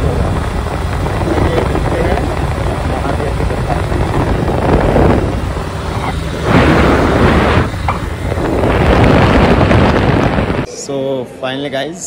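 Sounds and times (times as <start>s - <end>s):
motorcycle engine running: 0.0s - 10.7s
wind rushing over microphone: 0.0s - 10.7s.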